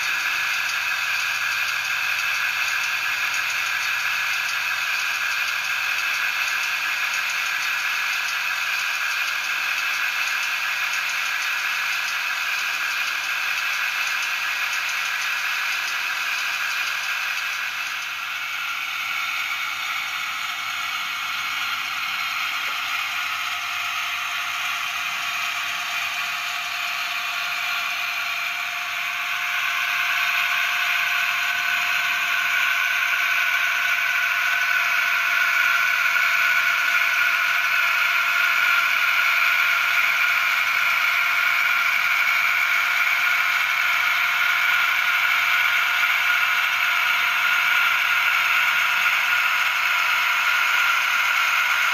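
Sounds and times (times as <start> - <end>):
thin diesel engine sound from small speaker: 0.0 - 51.9.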